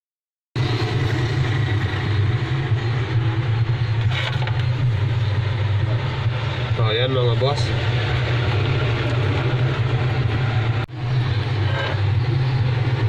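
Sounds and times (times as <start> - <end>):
low mechanical drone: 0.6 - 13.0.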